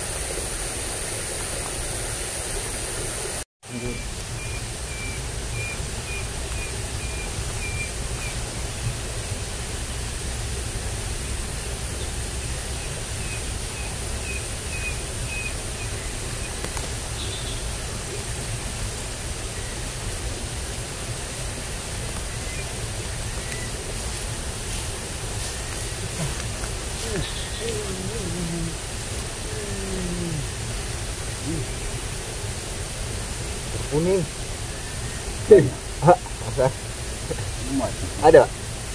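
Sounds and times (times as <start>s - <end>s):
low outdoor rumble: 0.0s - 38.9s.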